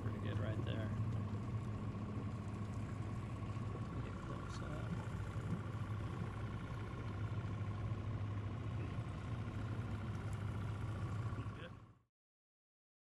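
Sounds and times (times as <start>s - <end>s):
boat motor idling: 0.0s - 12.0s.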